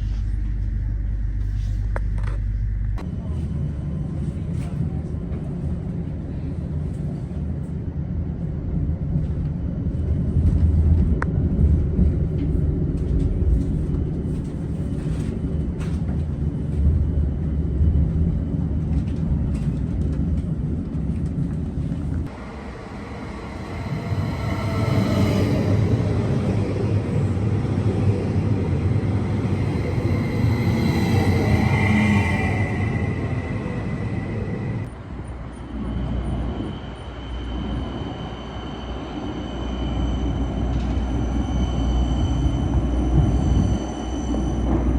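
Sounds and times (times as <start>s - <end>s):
electric train rumbling on rails: 0.0s - 44.9s
train drive whine: 0.0s - 44.9s.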